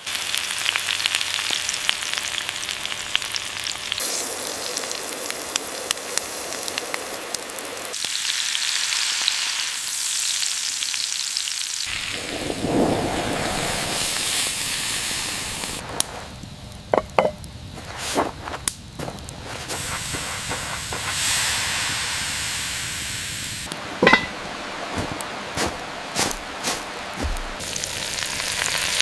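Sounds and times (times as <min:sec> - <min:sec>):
food sizzling: 0:00.0 - 0:29.0.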